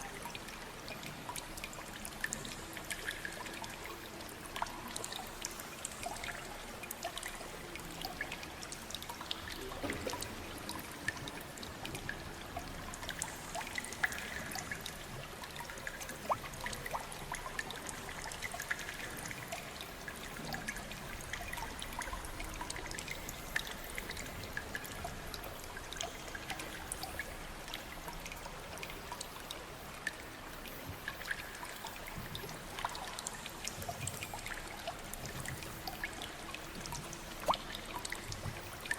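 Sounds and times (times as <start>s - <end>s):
water drips and splashes: 0.0s - 38.9s
water flowing: 0.0s - 38.9s.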